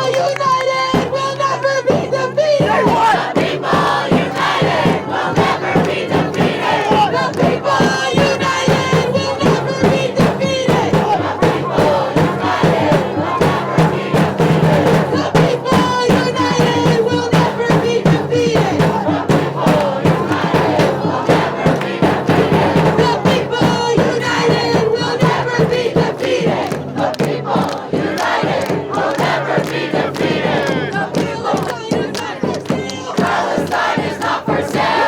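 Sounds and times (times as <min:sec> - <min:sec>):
crowd chanting loudly: 0:00.0 - 0:35.0
rhythmic percussive beats: 0:00.0 - 0:35.0.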